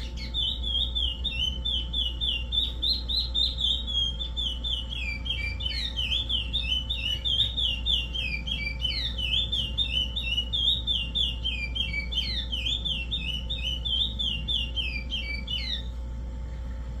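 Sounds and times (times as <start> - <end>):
finch whistling song: 0.0 - 16.0.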